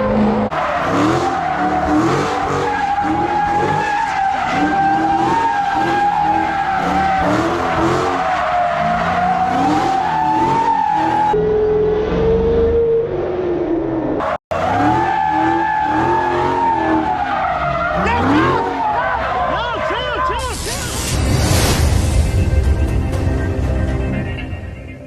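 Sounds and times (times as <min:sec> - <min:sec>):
tires squealing: 0:00.0 - 0:13.6, 0:14.2 - 0:22.1
car engine revving: 0:00.0 - 0:22.9.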